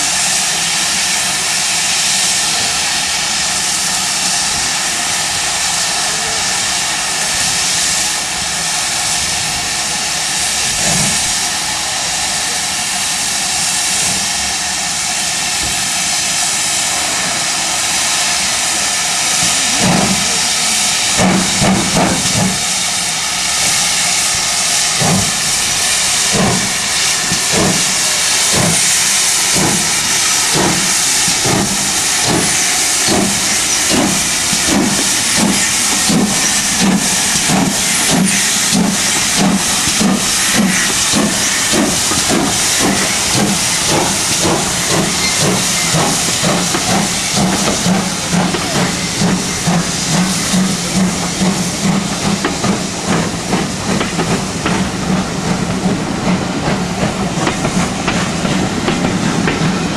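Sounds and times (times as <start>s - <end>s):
hiss of escaping steam: 0.0s - 59.9s
steam locomotive exhaust chuffs: 0.0s - 59.9s.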